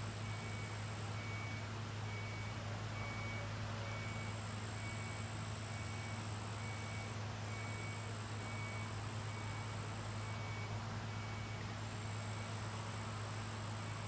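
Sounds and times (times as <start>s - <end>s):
faint high beep: 0.2s - 12.6s.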